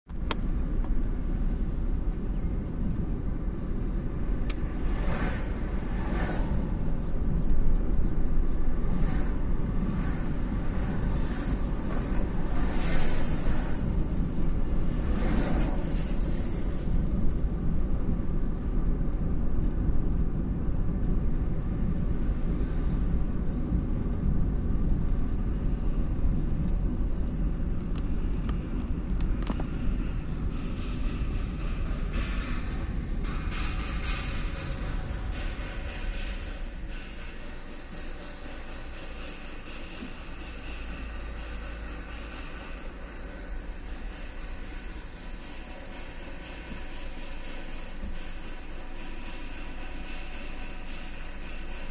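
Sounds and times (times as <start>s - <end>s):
road traffic rumble: 0.0s - 51.9s
vehicles passing by: 0.1s - 46.4s.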